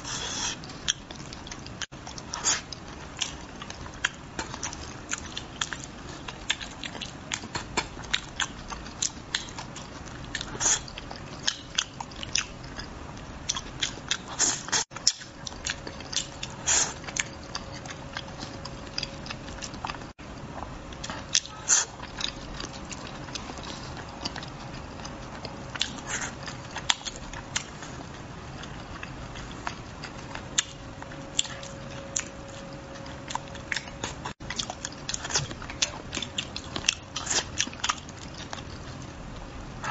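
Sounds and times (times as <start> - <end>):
man chewing and lip smacking: 0.1 - 39.2.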